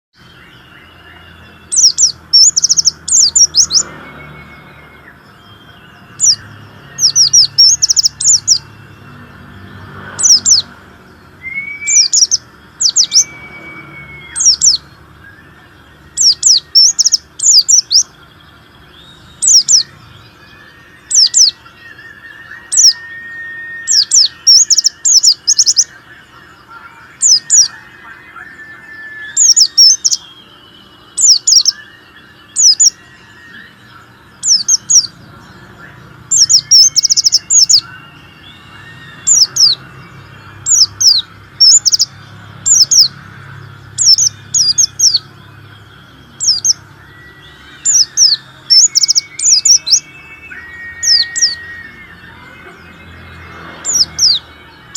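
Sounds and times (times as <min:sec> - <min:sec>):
faint whistled tones: 0:00.2 - 0:42.2, 0:44.0 - 0:54.9
bird chirping high and quick: 0:00.2 - 0:54.9.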